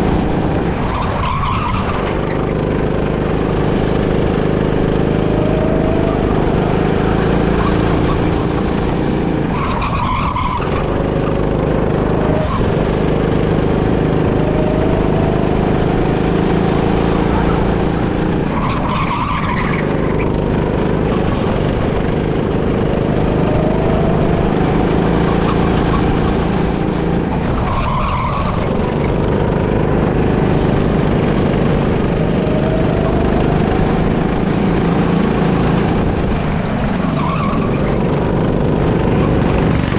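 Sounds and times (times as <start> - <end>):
go-kart engine whining: 0.0 - 39.9.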